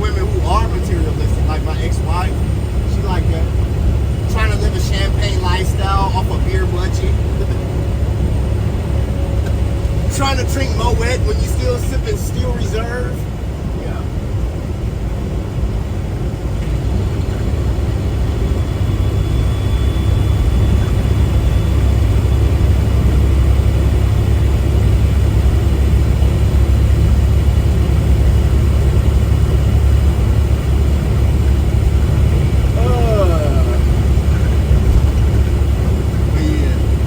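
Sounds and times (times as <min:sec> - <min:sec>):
truck diesel engine and road rumble: 0:00.0 - 0:37.0.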